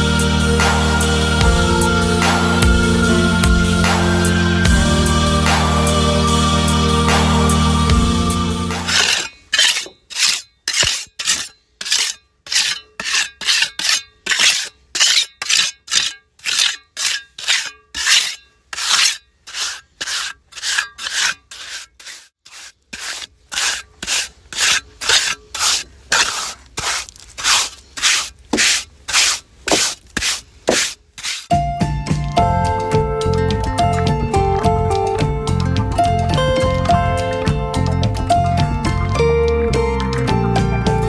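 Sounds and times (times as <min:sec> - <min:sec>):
rhythmic rasping scrapes: 0:00.0 - 0:31.6, 0:32.2 - 0:40.7.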